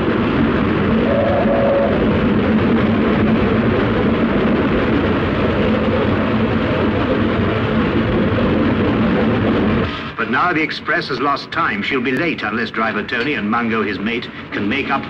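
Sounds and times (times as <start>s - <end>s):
train rushing rumble on track: 0.0s - 15.0s.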